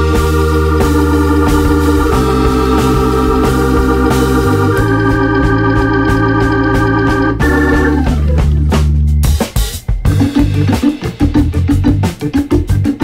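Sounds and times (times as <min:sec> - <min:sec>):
organ-like chords: 0:00.0 - 0:13.0
steady beat: 0:00.0 - 0:13.0.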